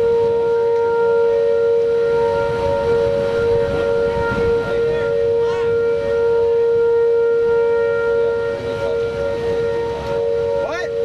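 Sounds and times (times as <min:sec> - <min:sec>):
low rushing noise: 0:00.0 - 0:11.0
warning sirens wailing: 0:00.0 - 0:11.0.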